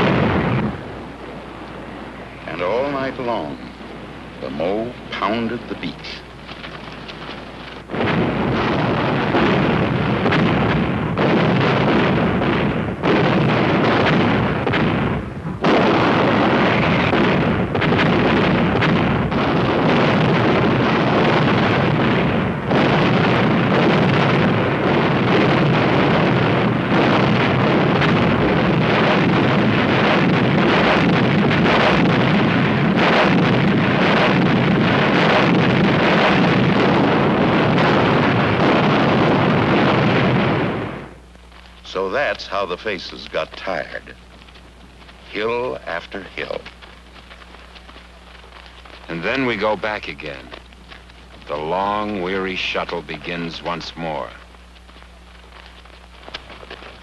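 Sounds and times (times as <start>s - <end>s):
artillery barrage and explosions: 0.0s - 57.0s.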